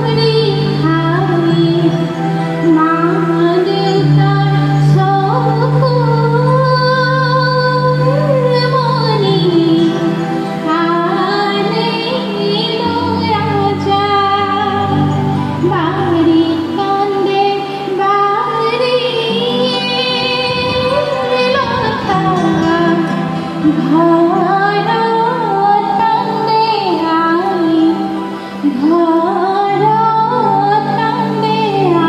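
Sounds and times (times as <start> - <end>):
instrumental backing: 0.0 - 32.0
woman singing: 0.0 - 32.0.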